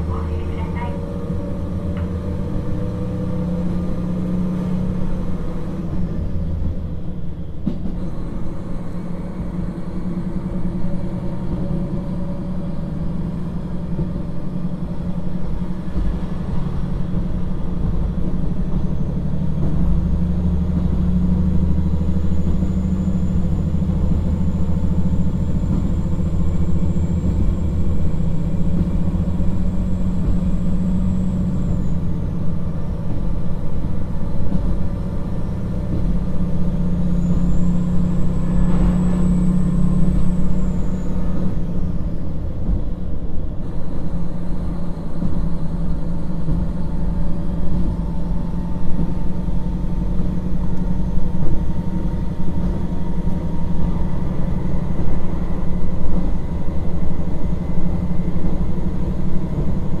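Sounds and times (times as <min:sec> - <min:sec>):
diesel engine drone: 0:00.0 - 1:00.0.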